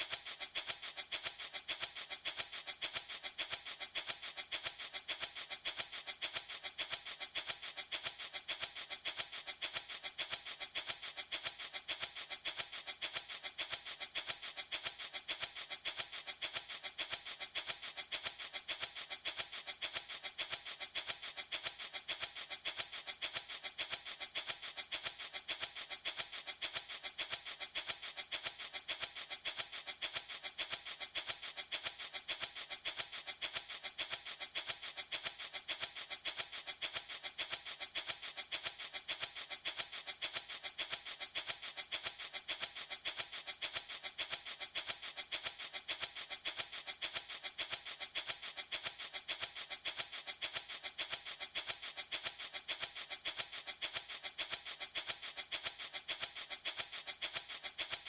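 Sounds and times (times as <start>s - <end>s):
wooden baby rattle shaking: 0.0s - 58.0s.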